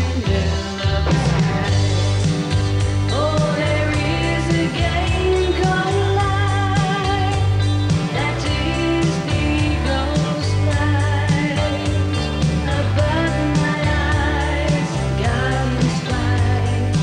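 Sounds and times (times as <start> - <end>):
pop band playing: 0.0 - 17.0
woman singing: 3.1 - 17.0.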